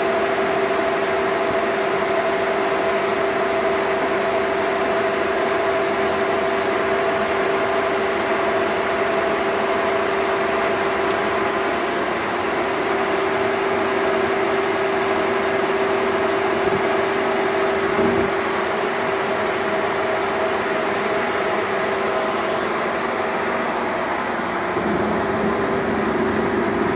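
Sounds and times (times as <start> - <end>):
lathe mechanical hum: 0.0 - 26.9
steady whining tones: 0.0 - 26.9.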